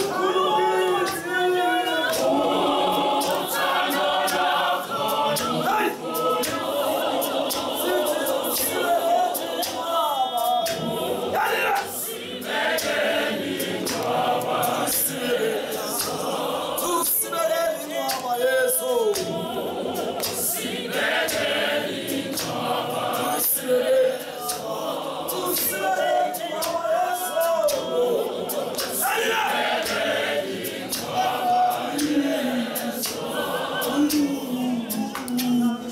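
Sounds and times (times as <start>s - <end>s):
sharp beats keeping time: 0.0s - 18.4s, 19.1s - 35.8s
choir singing a cappella gospel: 0.0s - 35.9s.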